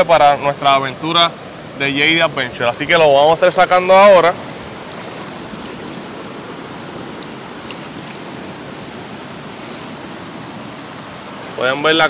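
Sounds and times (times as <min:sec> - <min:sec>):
river water flowing over rocks: 0:00.0 - 0:12.0.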